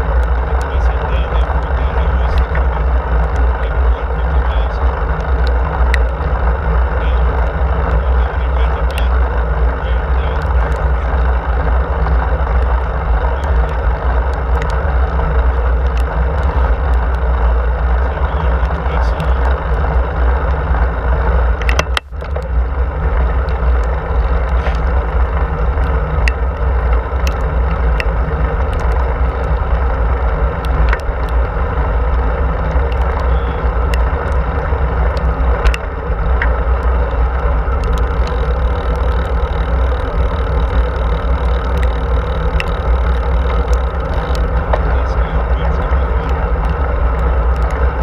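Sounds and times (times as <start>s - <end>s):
bicycle tyre rumble on asphalt: 0.0s - 48.0s
small clicks and rattles: 0.0s - 48.0s
wind buffeting: 0.0s - 48.0s.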